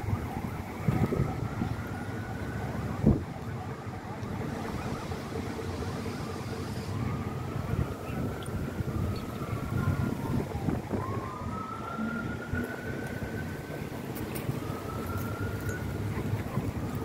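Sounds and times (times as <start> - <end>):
siren wailing: 0.0 - 17.0.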